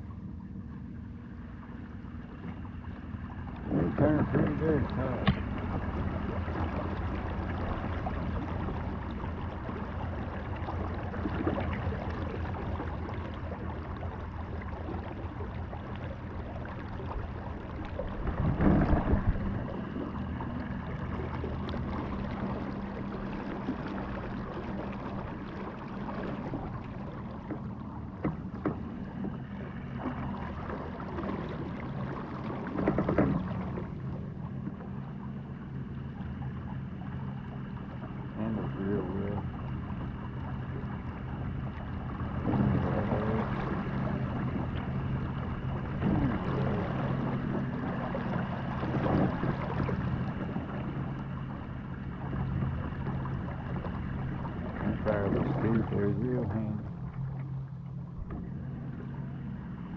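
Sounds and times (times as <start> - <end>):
kayak motor humming: 0.0 - 59.9
water rushing past hull: 0.0 - 59.9.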